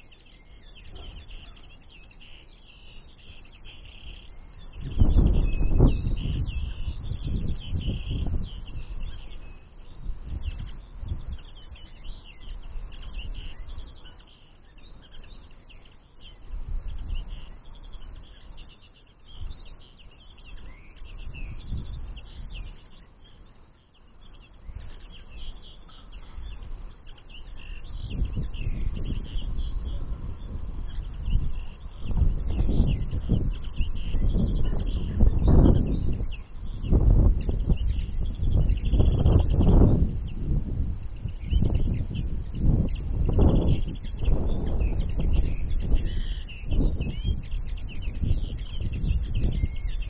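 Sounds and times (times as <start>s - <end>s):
songbirds twittering: 0.0s - 50.0s.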